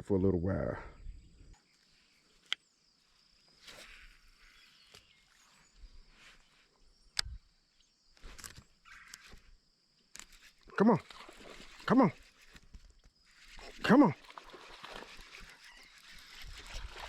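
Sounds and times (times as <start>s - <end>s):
insect trill: 0.6s - 17.0s.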